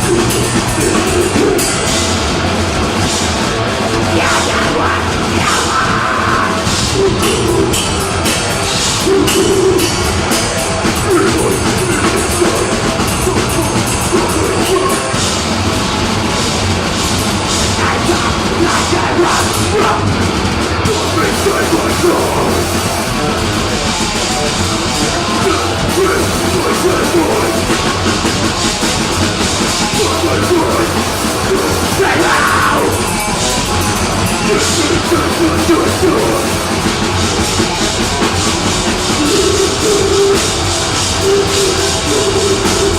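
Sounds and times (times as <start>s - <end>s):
distorted guitar and bass: 0.0s - 42.9s
fast dense drumming: 0.0s - 42.9s.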